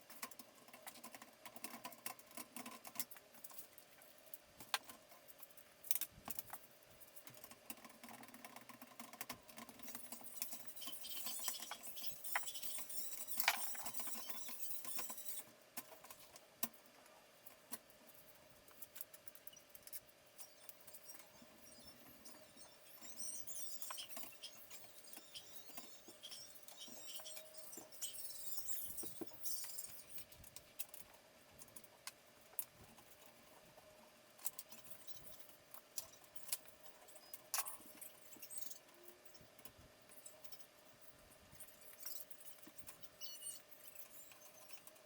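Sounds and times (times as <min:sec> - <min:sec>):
computer hardware clicks and rattles: 0:00.0 - 0:45.0.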